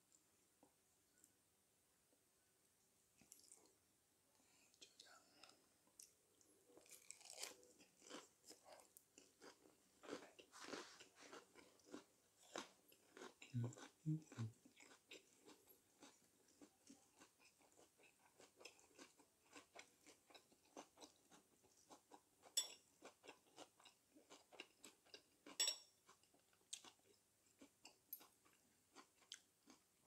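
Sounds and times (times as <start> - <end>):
chewing and crunching food: 3.2 - 3.8, 4.7 - 30.0.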